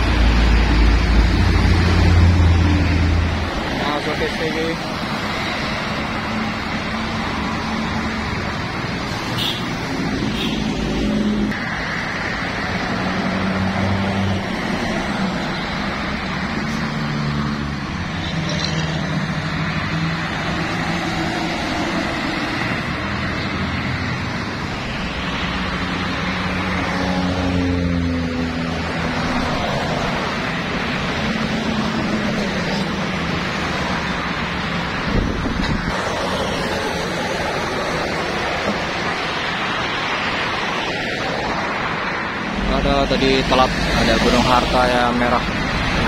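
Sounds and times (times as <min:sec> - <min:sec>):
buses driving past: 0:00.0 - 0:46.0.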